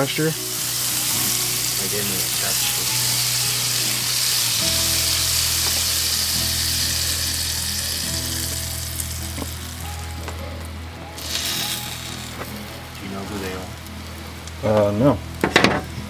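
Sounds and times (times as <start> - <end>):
background music: 0.0 - 16.0
food sizzling in a pan: 0.0 - 16.0.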